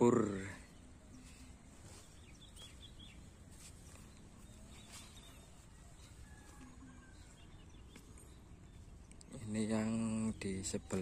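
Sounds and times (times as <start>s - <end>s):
high bird chirps: 0.7s - 10.0s.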